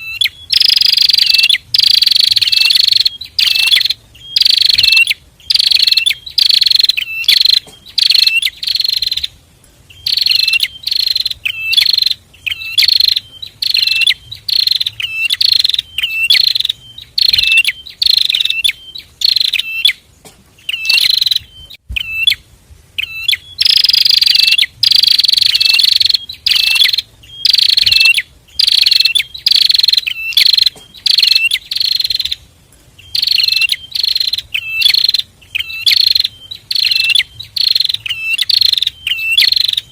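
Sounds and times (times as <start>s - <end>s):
birds calling in sharp high notes: 0.0s - 39.9s.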